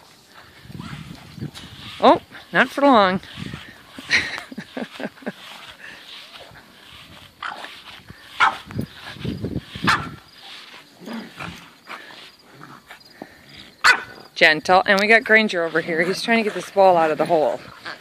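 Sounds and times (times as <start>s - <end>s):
dogs vocalizing in play: 0.3s - 14.3s, 15.3s - 18.0s.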